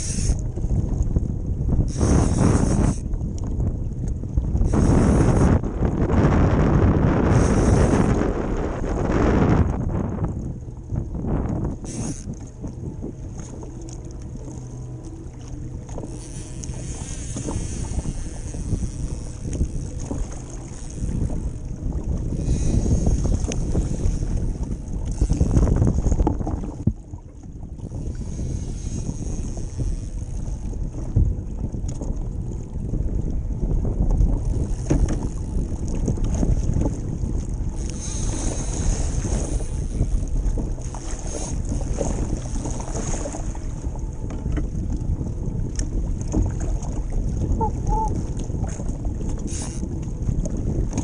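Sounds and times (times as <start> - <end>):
water slapping against hull: 0.0 - 51.0
wind buffeting microphone: 0.0 - 51.0.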